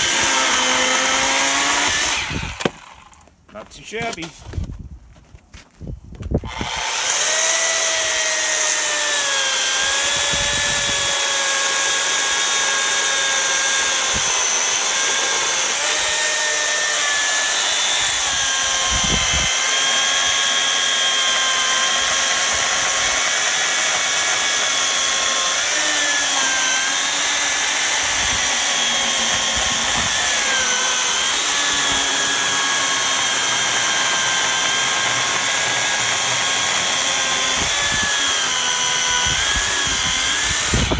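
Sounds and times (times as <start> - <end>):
electric chainsaw cutting log: 0.0 - 3.3, 6.4 - 40.9.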